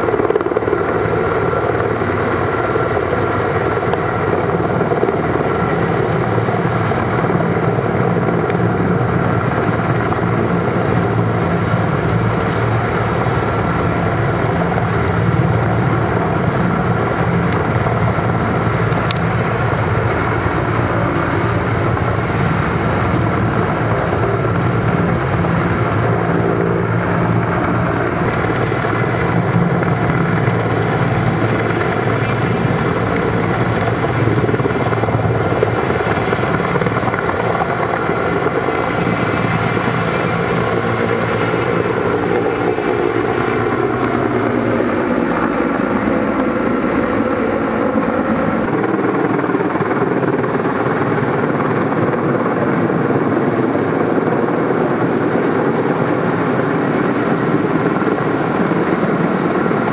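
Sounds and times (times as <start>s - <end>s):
helicopter rotor roar: 0.0s - 59.9s
high turbine whine: 0.0s - 59.9s.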